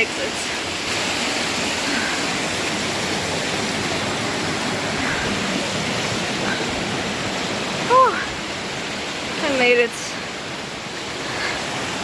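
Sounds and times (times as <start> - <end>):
water tumbling over rocks: 0.0 - 12.0.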